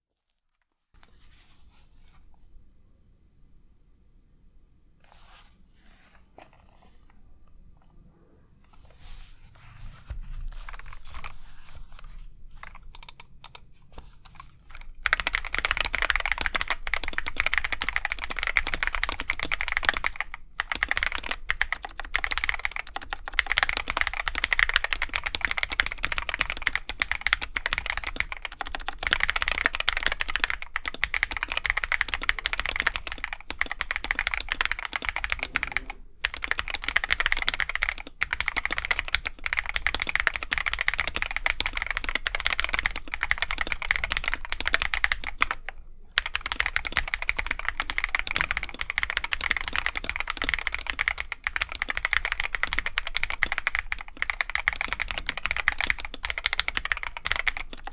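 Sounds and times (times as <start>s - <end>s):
mechanical keyboard typing: 10.4s - 57.9s.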